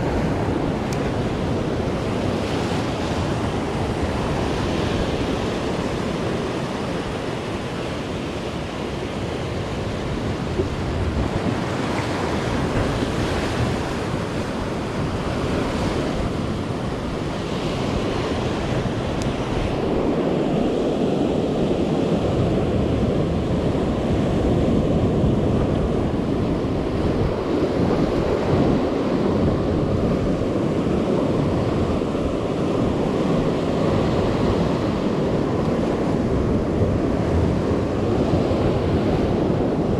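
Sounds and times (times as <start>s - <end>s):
ocean surf breaking over rocks: 0.0s - 39.9s
wind buffeting microphone: 0.0s - 39.9s.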